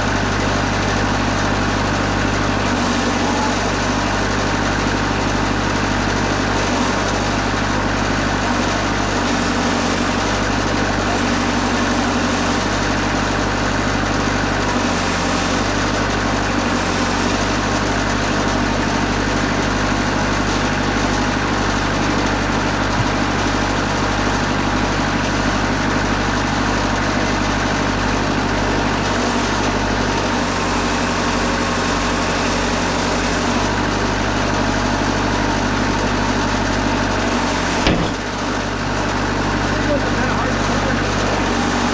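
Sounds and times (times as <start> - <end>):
bandsaw mill engine running: 0.0 - 41.9.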